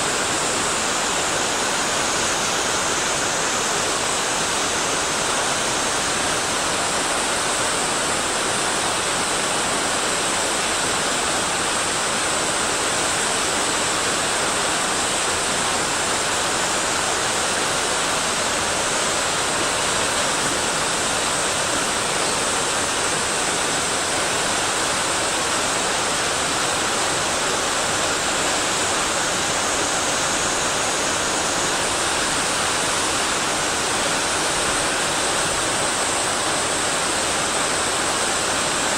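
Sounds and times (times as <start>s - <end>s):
stream and waterfall rushing: 0.0s - 38.9s.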